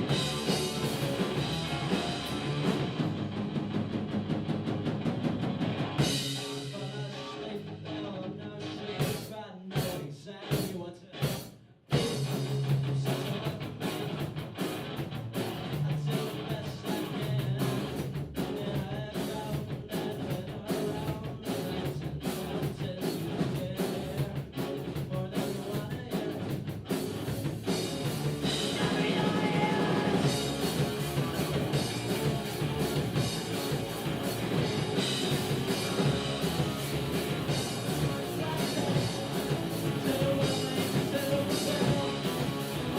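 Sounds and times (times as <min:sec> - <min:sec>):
rock music with drum kit: 0:00.0 - 0:42.9.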